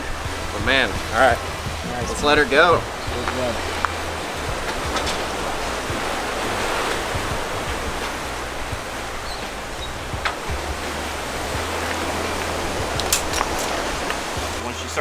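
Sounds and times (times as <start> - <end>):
wind rushing: 0.0 - 14.6
sea surf: 0.0 - 15.0.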